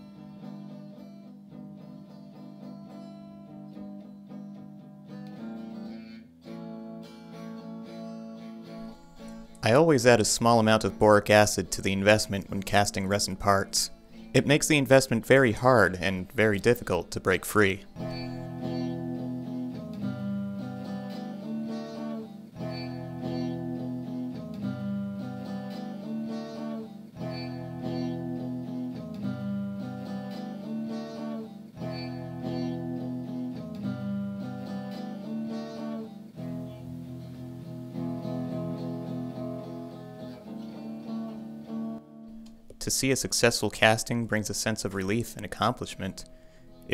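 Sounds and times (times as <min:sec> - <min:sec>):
acoustic guitar strumming chords: 0:00.0 - 0:46.9.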